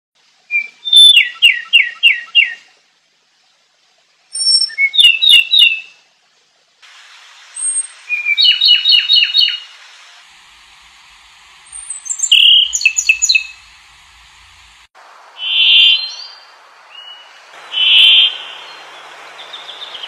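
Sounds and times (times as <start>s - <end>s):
faint steady hiss: 0.2s - 20.0s
songbird singing: 0.4s - 2.7s, 4.3s - 6.0s, 7.5s - 20.0s.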